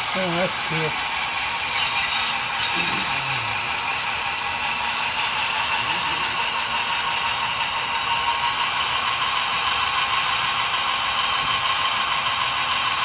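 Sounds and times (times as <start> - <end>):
freight train running: 0.0 - 13.0.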